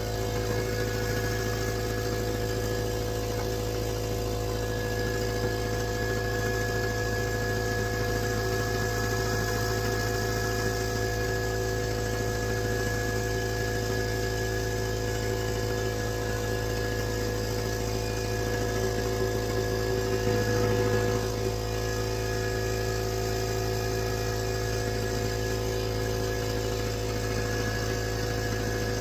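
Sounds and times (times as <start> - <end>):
motor running steadily: 0.0 - 29.0.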